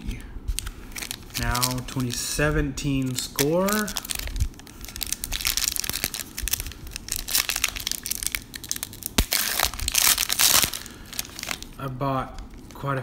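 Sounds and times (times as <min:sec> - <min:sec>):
foil wrapper crinkling: 0:00.5 - 0:12.8
foil wrapper ripping: 0:00.6 - 0:11.8.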